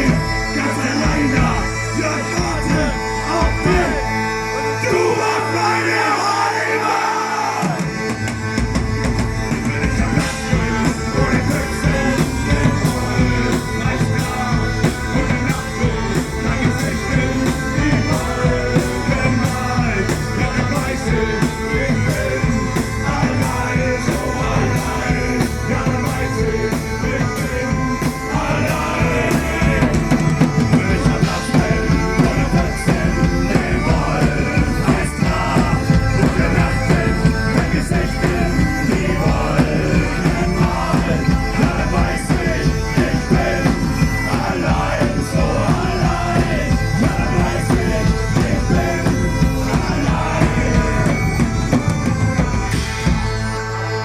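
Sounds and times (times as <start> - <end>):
steady drum beat: 0.0 - 6.4, 7.3 - 53.9
singing: 0.0 - 53.5
rock band playing: 0.0 - 54.0.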